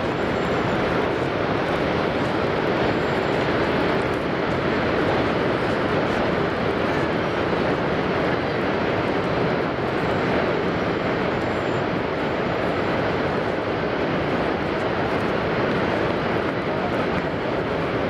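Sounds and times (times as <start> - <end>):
waterfall roaring onto rocks: 0.0 - 18.0.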